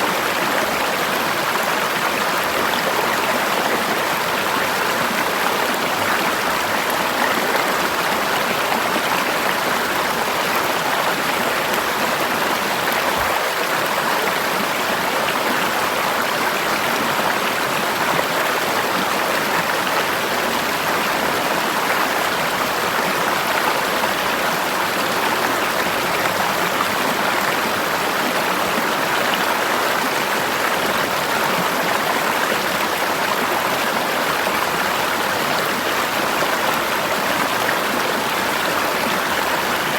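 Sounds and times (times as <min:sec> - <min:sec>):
river flowing over rocks: 0:00.1 - 0:39.9.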